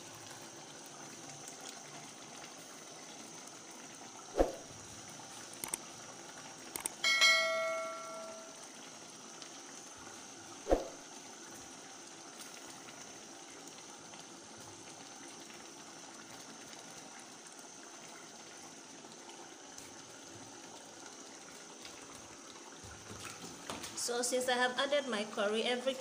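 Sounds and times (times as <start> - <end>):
stew simmering and bubbling: 0.0 - 24.4.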